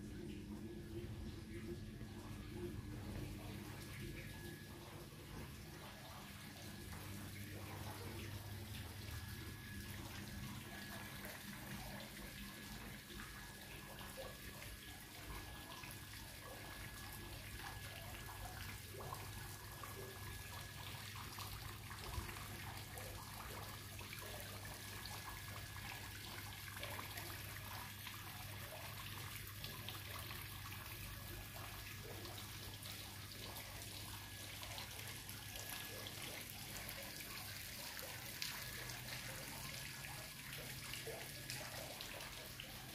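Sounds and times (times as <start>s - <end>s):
fountain trickling: 3.2s - 42.9s.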